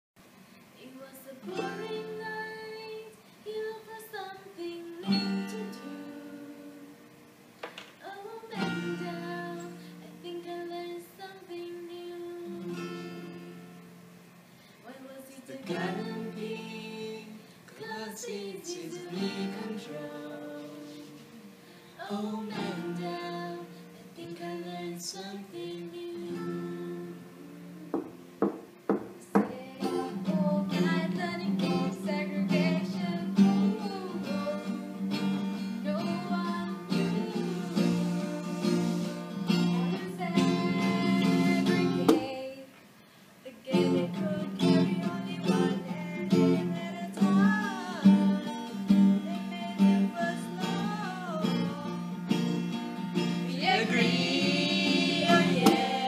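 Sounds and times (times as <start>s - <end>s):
person singing: 0.8s - 7.0s, 8.0s - 13.6s, 14.8s - 28.2s, 29.2s - 42.8s, 43.4s - 52.6s, 53.2s - 56.0s
acoustic guitar strumming: 1.4s - 3.0s, 4.9s - 14.4s, 15.4s - 42.5s, 43.7s - 56.0s.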